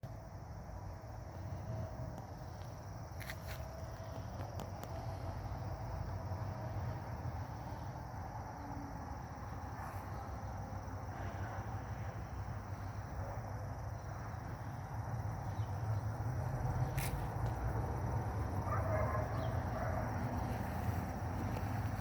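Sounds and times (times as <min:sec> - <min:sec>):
crickets droning: 0:00.0 - 0:22.0.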